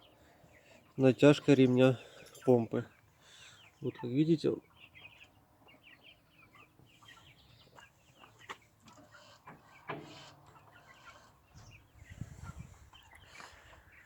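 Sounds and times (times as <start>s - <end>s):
birds chirping and clucking: 0.0s - 14.0s.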